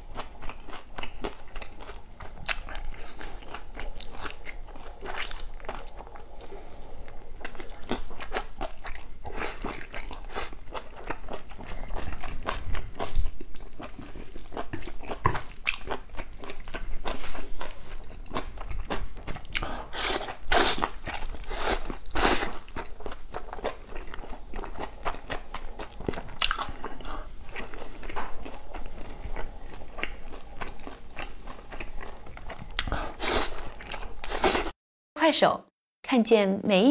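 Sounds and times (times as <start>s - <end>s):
man chewing food: 0.0s - 34.7s.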